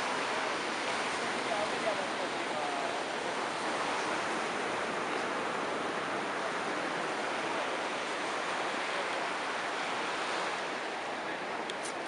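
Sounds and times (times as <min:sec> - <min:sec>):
sea surf on beach: 0:00.0 - 0:12.0.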